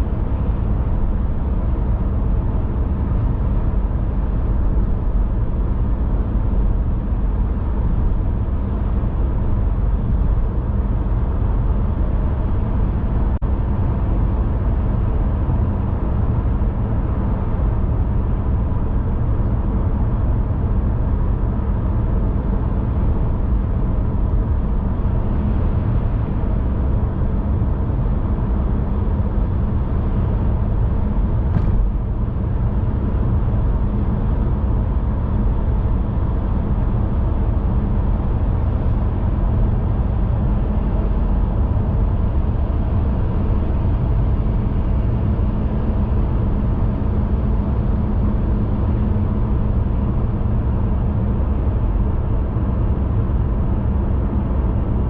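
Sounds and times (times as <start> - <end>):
car driving road noise: 0.0 - 55.0.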